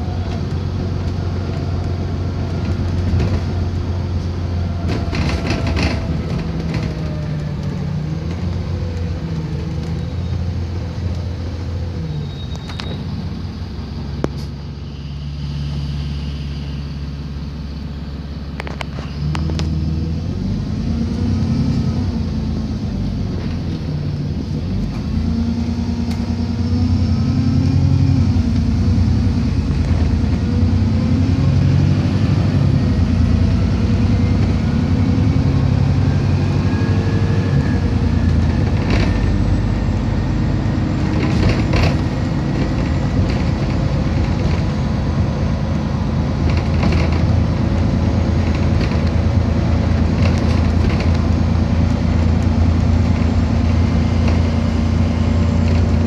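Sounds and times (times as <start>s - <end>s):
bus engine humming: 0.0s - 56.0s.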